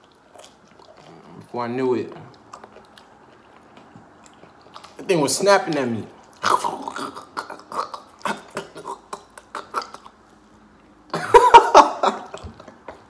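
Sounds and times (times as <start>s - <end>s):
chewing with wet mouth clicks: 0.0s - 11.2s, 12.2s - 13.0s.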